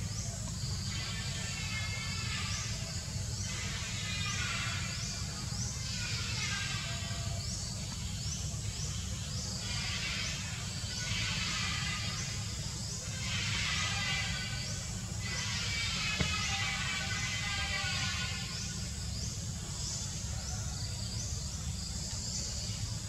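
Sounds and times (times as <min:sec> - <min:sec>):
insects buzzing and hissing: 0:00.0 - 0:23.0.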